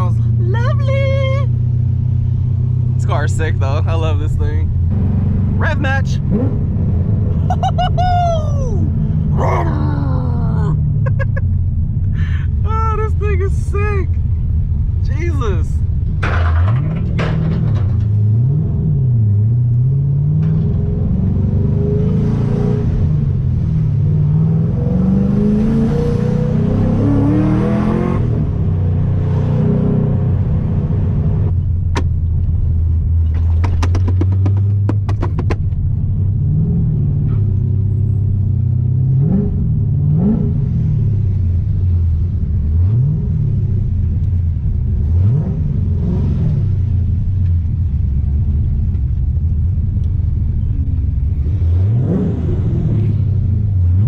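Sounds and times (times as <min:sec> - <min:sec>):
car engine: 0:00.0 - 0:54.0.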